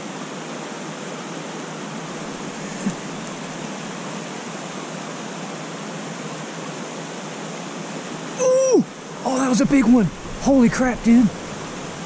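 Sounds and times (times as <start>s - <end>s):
creek cascade rushing: 0.0s - 12.0s.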